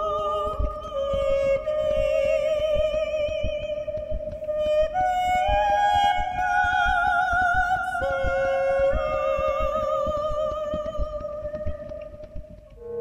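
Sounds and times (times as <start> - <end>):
faint low pulsing: 0.0 - 13.0.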